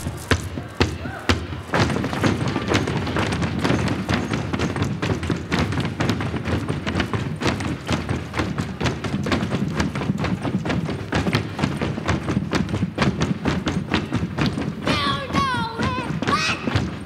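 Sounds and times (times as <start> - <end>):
children stomping and clapping: 0.0 - 17.0.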